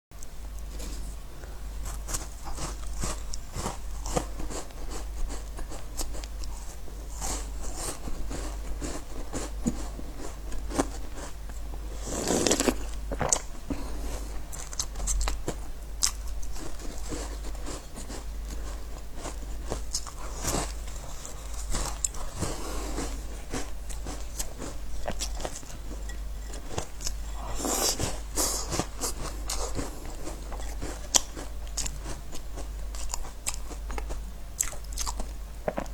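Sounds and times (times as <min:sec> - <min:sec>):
steady low hum: 0:00.2 - 0:35.9
biscuits crunching while chewed: 0:01.8 - 0:35.9.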